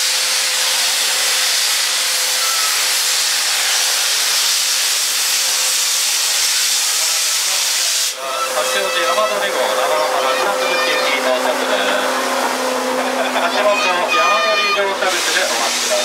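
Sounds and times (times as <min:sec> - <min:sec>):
steam locomotive venting steam: 0:00.0 - 0:16.0.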